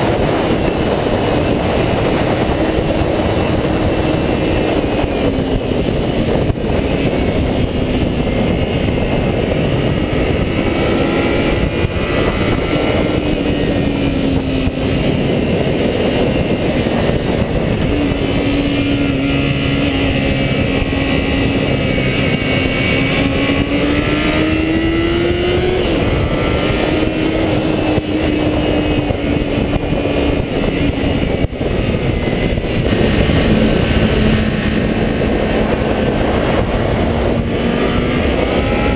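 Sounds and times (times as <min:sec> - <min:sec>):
motorcycle engine at high revs: 0:00.0 - 0:38.9
wind and road noise: 0:00.0 - 0:38.9.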